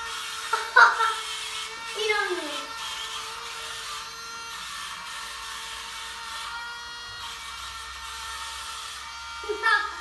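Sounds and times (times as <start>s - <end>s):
suction fan motor whining: 0.0s - 10.0s.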